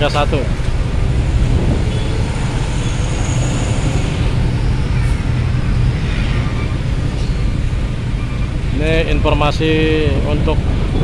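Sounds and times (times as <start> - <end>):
idling trucks and cars rumbling: 0.0 - 11.0.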